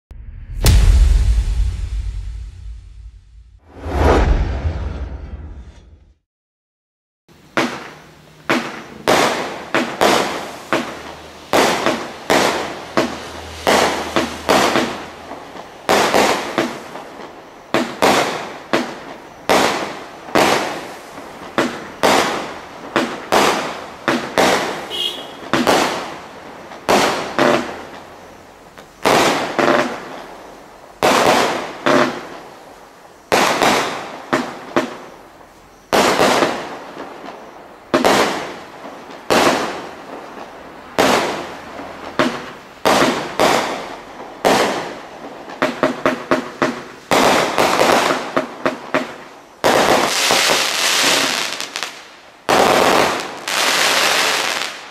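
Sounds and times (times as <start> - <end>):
fireworks bangs: 0.2 - 6.0, 7.4 - 54.9.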